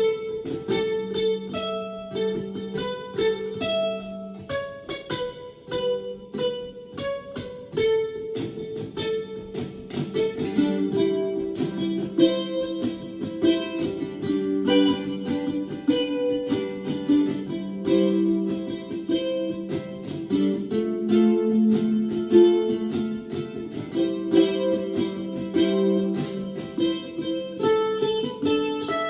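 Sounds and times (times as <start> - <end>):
mandolin melody: 0.0 - 29.0.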